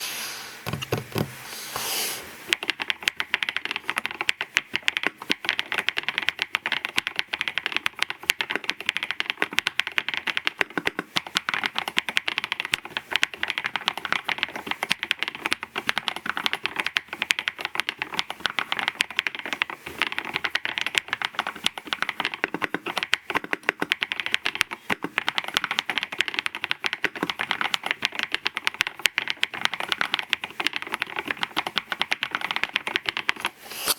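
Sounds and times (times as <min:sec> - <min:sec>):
mechanical keyboard typing: 0:00.7 - 0:01.3, 0:02.5 - 0:33.6.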